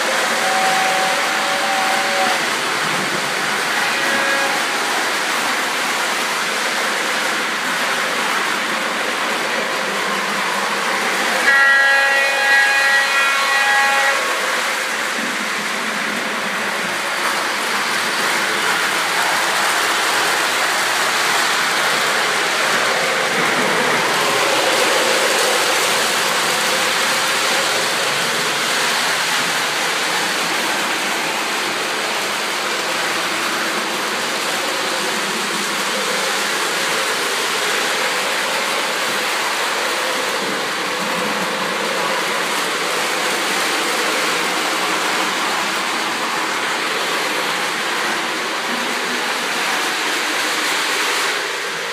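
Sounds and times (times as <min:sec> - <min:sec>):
model train rolling whir: 0:00.0 - 0:51.9.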